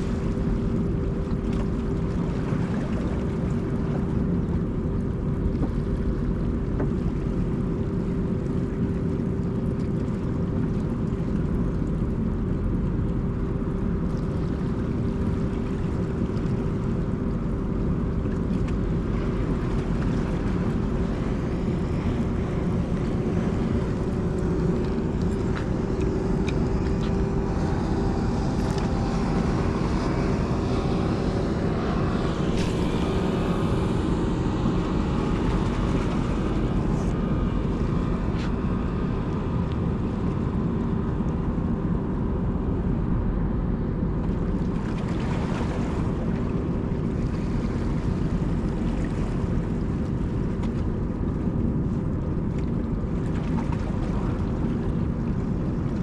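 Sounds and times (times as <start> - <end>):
motorboat engine running: 0.0 - 56.0
wind and water rushing: 0.0 - 56.0.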